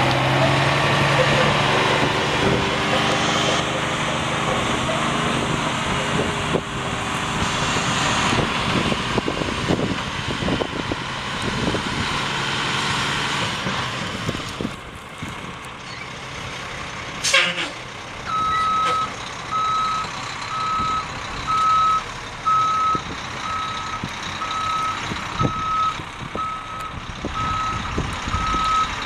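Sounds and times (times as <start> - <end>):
diesel truck engine: 0.0 - 29.0.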